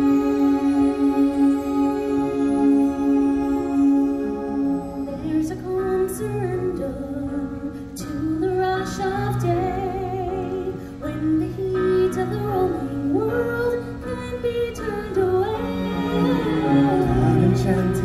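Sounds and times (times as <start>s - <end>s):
backing music: 0.0s - 18.0s
woman singing: 0.0s - 18.0s.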